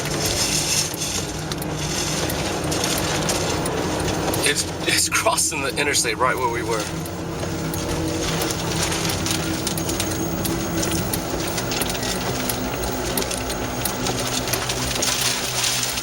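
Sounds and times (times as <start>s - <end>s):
car engine hum: 0.0s - 16.0s
wind and road noise: 0.0s - 16.0s.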